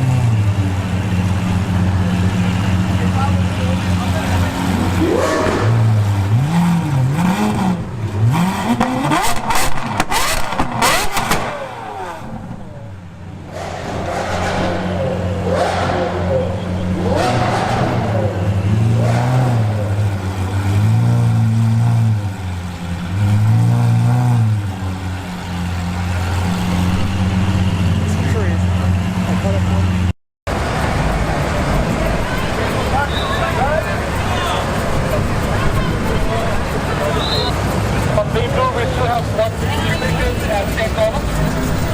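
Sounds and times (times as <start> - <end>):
sports car engine revving: 0.0 - 41.9.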